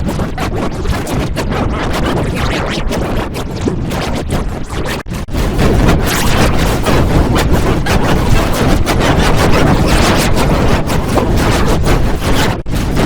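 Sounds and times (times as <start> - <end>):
harsh distorted noise: 0.0 - 13.0.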